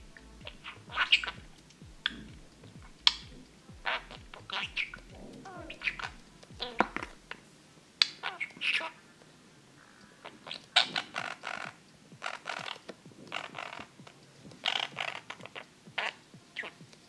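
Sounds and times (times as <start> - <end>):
budgerigar chattering: 0.0 - 7.4, 8.0 - 9.2, 9.8 - 16.9.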